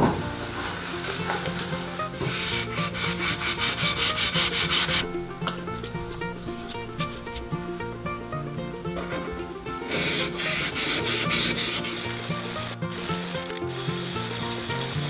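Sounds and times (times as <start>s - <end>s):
quiet background music: 0.0s - 15.0s
blade scraping on wet whetstone: 0.7s - 14.9s.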